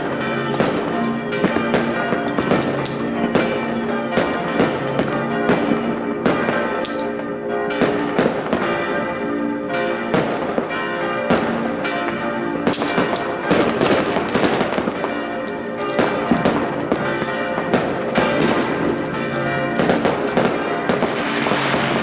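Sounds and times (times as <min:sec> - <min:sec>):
fireworks banging and crackling: 0:00.0 - 0:09.0, 0:10.1 - 0:22.0
bells ringing: 0:00.0 - 0:22.0.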